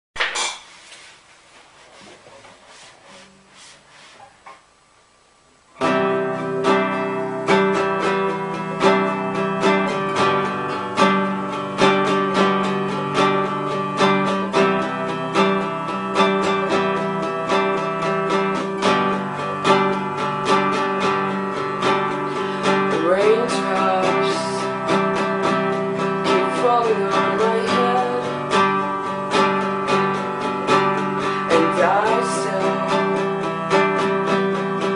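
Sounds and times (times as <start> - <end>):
faint background noise: 0.2 - 34.9
acoustic guitar strumming: 5.8 - 34.9.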